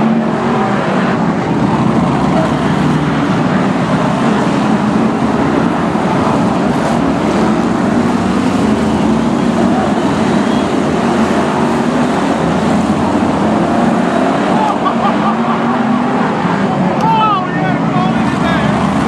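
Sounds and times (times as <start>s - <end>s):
racing car engines droning: 0.0s - 19.0s.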